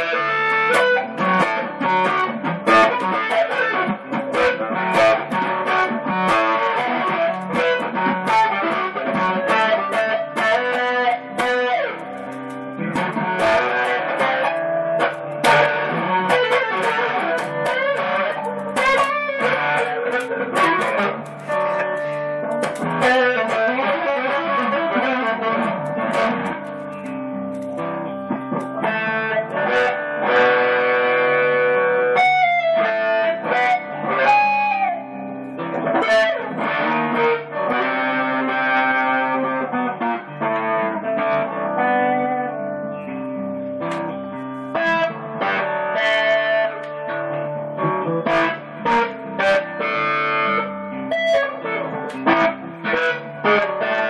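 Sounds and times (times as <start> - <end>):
electric guitar blues lead: 0.0 - 54.0
looped backing guitar: 0.0 - 54.0.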